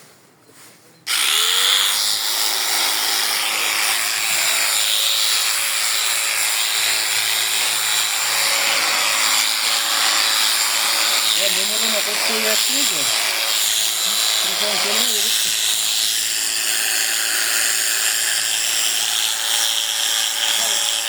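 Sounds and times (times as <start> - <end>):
electric shears buzzing: 1.1 - 21.0.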